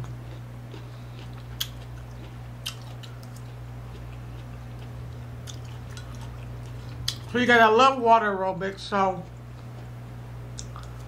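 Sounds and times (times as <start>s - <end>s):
person chewing: 0.0s - 7.5s, 9.2s - 11.0s
steady low hum: 0.0s - 11.0s.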